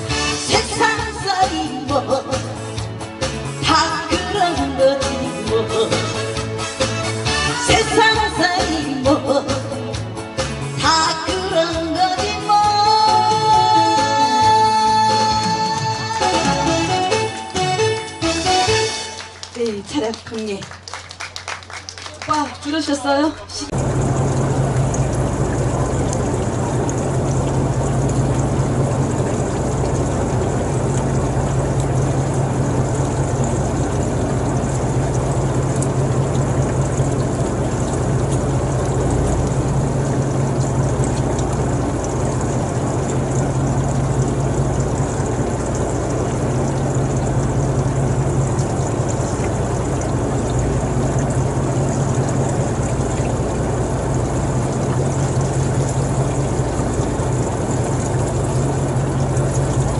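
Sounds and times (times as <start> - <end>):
engine running steadily: 0.0 - 22.6, 23.4 - 59.9.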